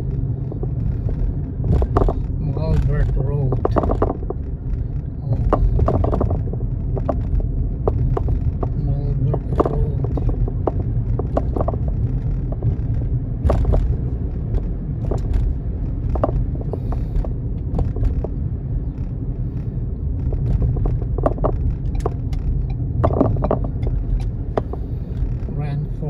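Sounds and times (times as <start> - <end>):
low rumble of engine and road noise: 0.0 - 26.0
light taps and knocks in car cabin: 0.2 - 26.0.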